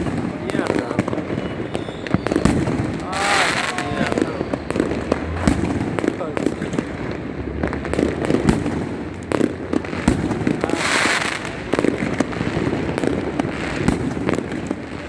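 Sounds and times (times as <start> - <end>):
hissing firework burst: 0.0 - 14.6
fireworks and firecrackers banging: 0.0 - 15.0.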